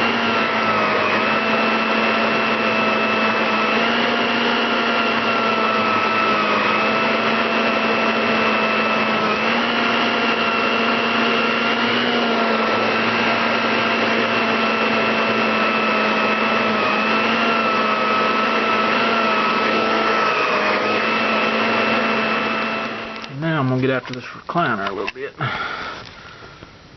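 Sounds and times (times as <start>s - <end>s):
vacuum cleaner running: 0.0s - 24.2s.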